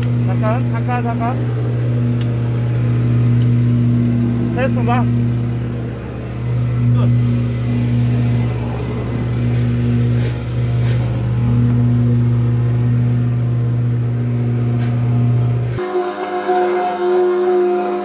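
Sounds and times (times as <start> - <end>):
low mechanical drone: 0.0 - 18.0.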